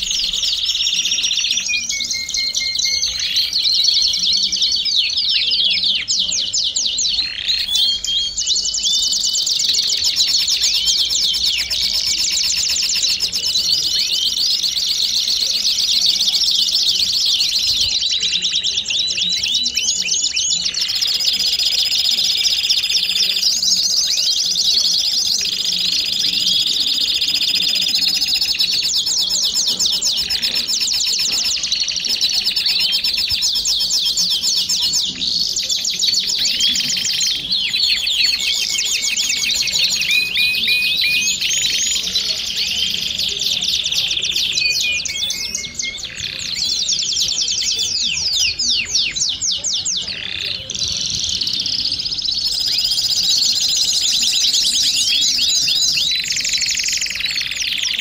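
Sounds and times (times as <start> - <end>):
canary trilling song: 0.0 - 58.0.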